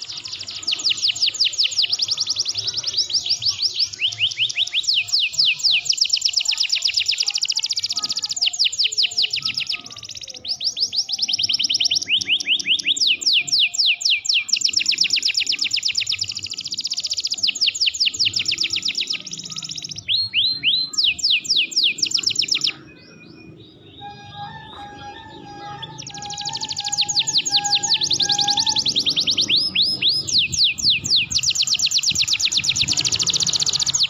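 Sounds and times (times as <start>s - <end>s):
canary singing trills: 0.0s - 34.0s.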